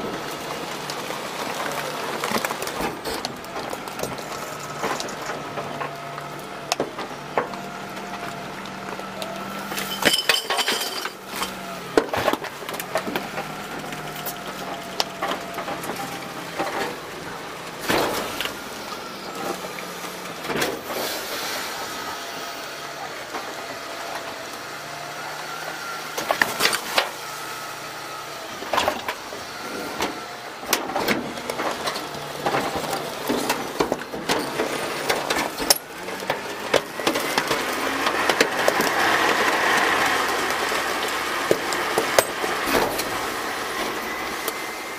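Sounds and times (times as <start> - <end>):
hydraulics whining: 0.0 - 44.9
metal and trash clunking: 0.1 - 21.3, 28.6 - 44.1.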